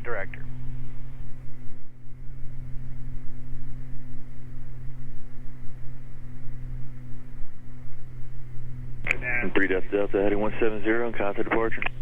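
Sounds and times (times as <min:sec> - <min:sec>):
propeller aircraft engines droning: 0:00.0 - 0:12.0.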